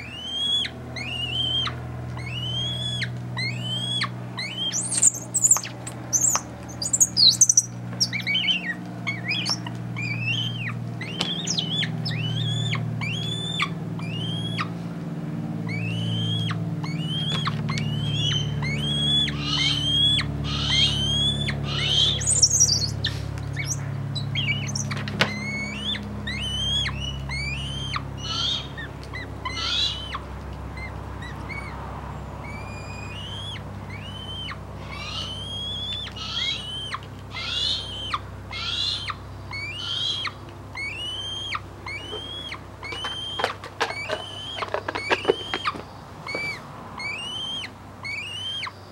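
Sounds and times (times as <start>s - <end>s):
young hawk begging calls: 0.0s - 14.9s, 15.5s - 48.9s.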